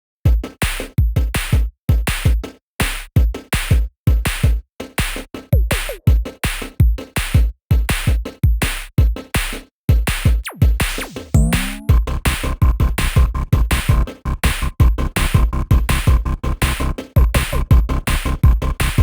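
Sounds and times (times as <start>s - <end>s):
electronic music with drum beat: 0.3s - 19.0s.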